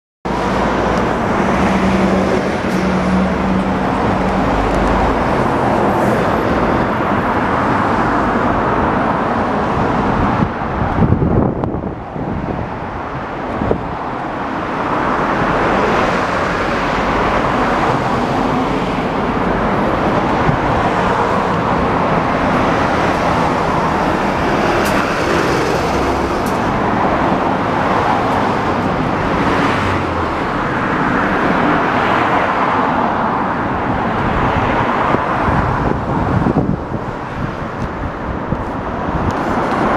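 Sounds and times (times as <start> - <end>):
road traffic noise: 0.2 - 39.9.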